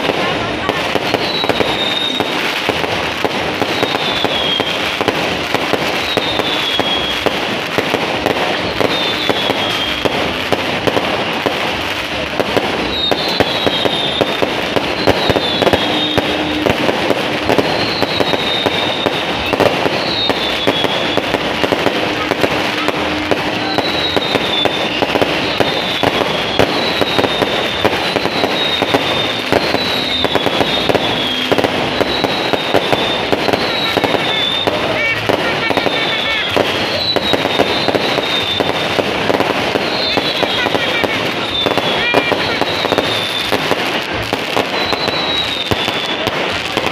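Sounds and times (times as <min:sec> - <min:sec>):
fireworks bangs and crackle: 0:00.0 - 0:46.9
fireworks whistles falling: 0:00.0 - 0:46.9.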